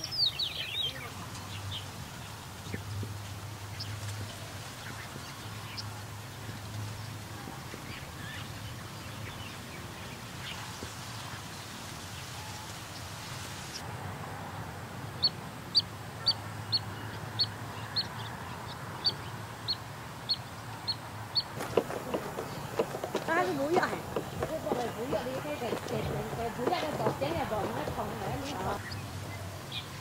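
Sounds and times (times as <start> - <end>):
faint outdoor background noise: 0.0 - 30.0.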